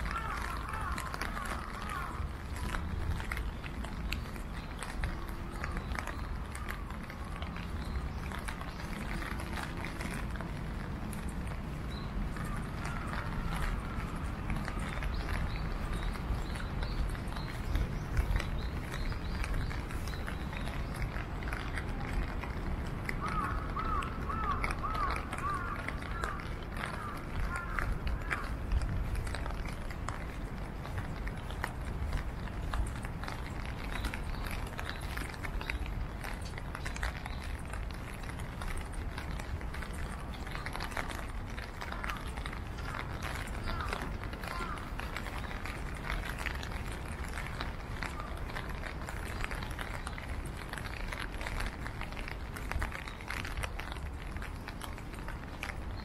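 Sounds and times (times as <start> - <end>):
low rumble of traffic: 0.0 - 56.0
small irregular taps and clicks: 0.0 - 56.0.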